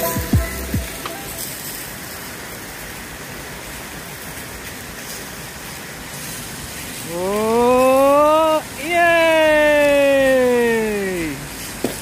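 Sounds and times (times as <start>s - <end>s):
rushing water hiss: 0.0s - 12.0s.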